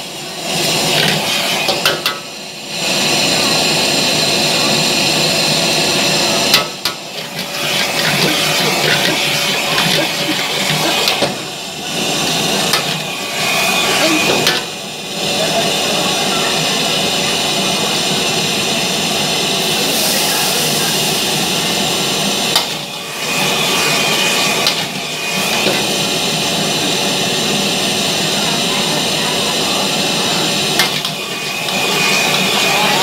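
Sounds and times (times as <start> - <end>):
gas burner flame roaring: 0.0 - 33.0.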